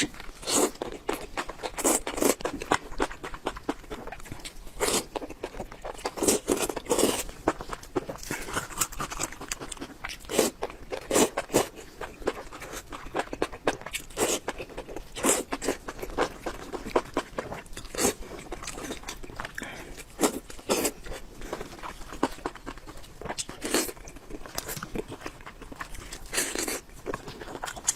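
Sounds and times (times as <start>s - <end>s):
person chewing crunchy food: 0.0s - 27.9s.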